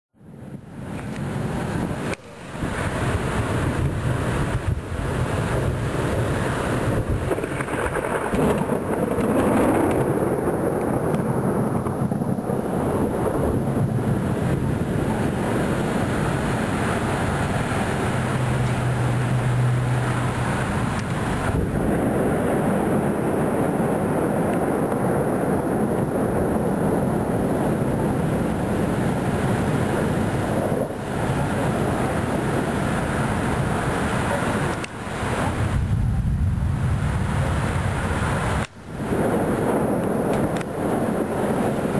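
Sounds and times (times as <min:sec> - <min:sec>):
rain: 0:00.2 - 0:41.9
thunder rumbling: 0:00.2 - 0:41.9.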